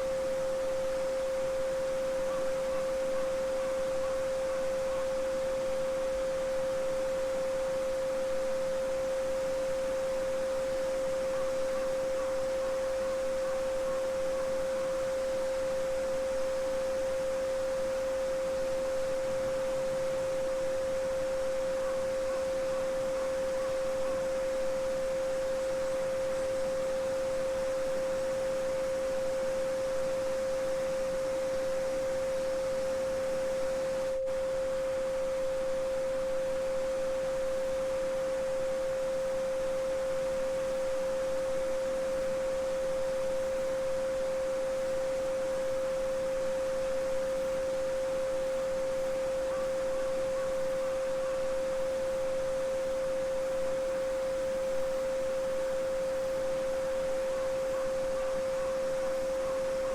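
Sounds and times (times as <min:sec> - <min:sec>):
steady sine tone: 0:00.0 - 0:59.9.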